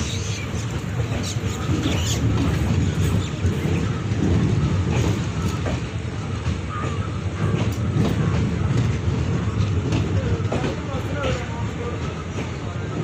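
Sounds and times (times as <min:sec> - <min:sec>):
rail clicks: 0:00.0 - 0:13.0
train wheels rumbling on rails: 0:00.0 - 0:13.0.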